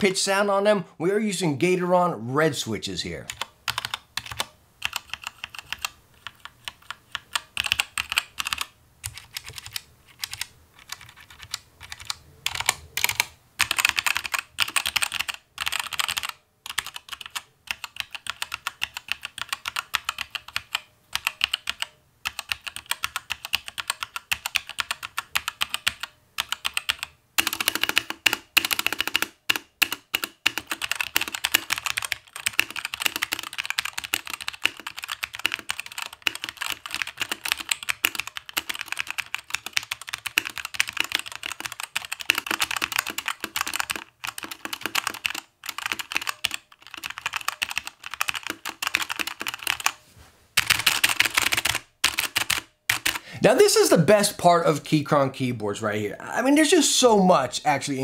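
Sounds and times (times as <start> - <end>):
mechanical keyboard typing: 3.3 - 50.0, 50.6 - 53.2.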